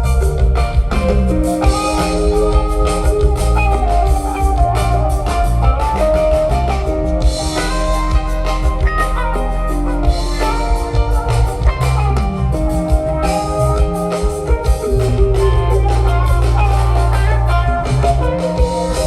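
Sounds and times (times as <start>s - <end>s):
live instrumental rock band: 0.0s - 19.0s.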